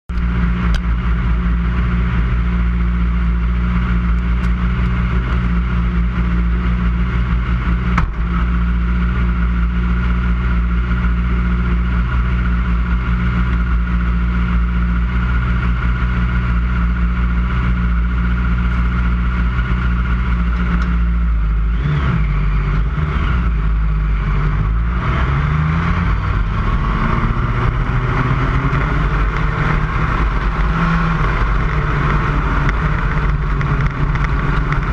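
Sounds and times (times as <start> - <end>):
race car engine running: 0.1 - 34.9.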